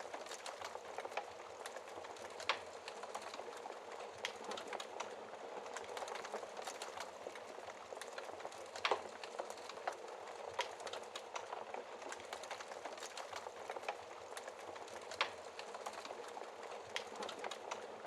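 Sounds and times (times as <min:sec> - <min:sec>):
fire pops and snaps: 0:00.0 - 0:17.9
burning logs crackling: 0:00.0 - 0:18.0.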